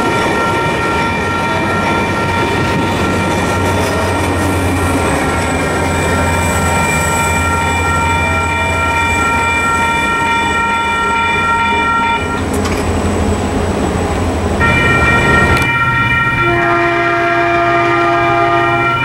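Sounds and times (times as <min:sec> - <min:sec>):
train horn chords: 0:00.0 - 0:13.8, 0:14.4 - 0:19.0
passing train rumble: 0:00.0 - 0:19.0.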